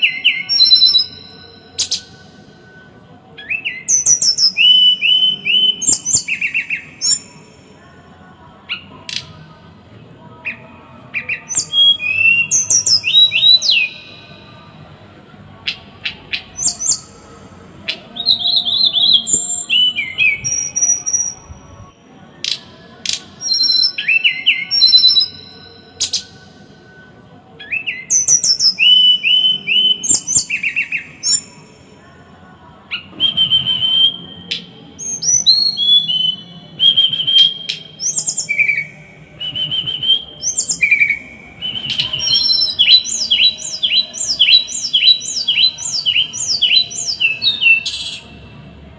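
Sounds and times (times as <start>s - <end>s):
songbird chirping and whistling: 0.0s - 2.5s, 3.3s - 7.8s, 8.6s - 9.4s, 10.4s - 14.6s, 15.6s - 26.5s, 27.6s - 31.9s, 32.9s - 48.4s.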